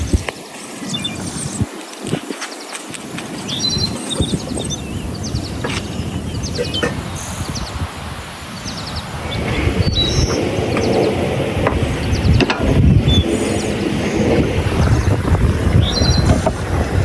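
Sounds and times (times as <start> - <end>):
birds chirping in rapid trills: 0.0 - 1.7, 2.5 - 17.0.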